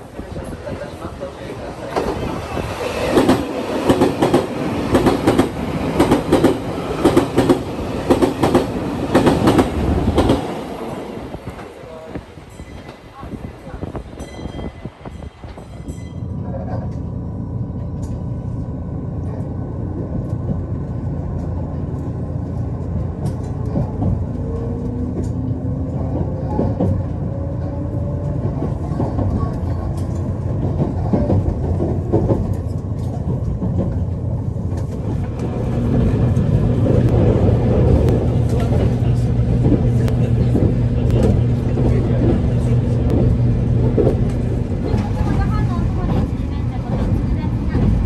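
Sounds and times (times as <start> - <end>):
train rumbling on track: 0.0 - 48.0.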